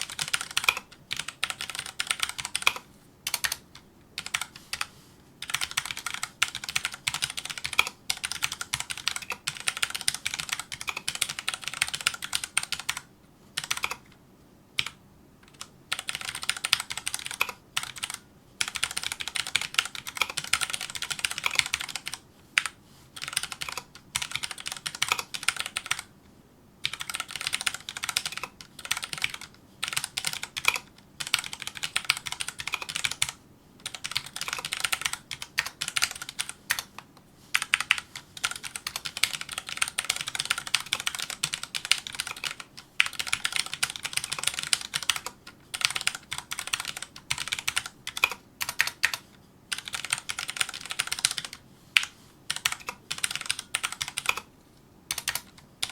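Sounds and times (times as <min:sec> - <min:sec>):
mechanical keyboard typing: 0:00.0 - 0:14.2, 0:14.8 - 0:26.1, 0:26.8 - 0:54.5, 0:55.1 - 0:55.9.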